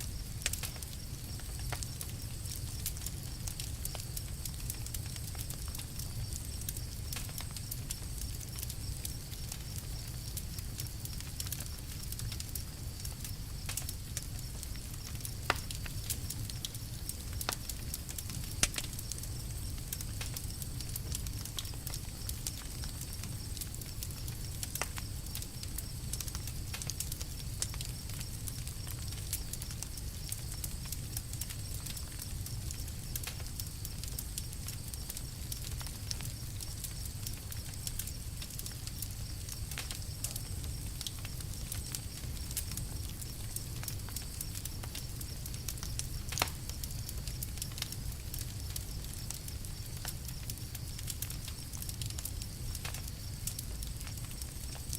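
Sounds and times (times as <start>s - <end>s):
campfire crackling: 0.0s - 54.9s
wood popping in fire: 0.0s - 54.9s.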